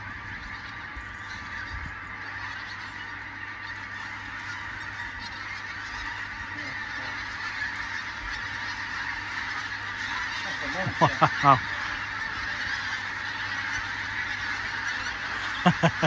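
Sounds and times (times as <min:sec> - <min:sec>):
flock of geese honking: 0:00.0 - 0:16.0.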